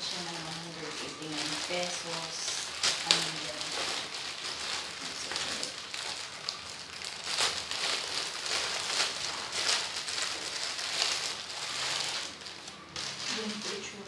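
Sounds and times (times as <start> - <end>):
packaging rustling and crackling: 0.0 - 14.0.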